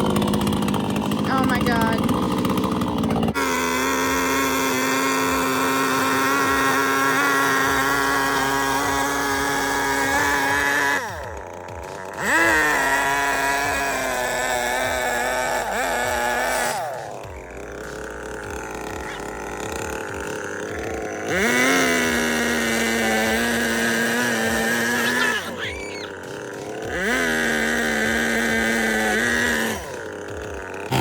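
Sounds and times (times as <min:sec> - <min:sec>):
small engine revving: 0:00.0 - 0:31.0.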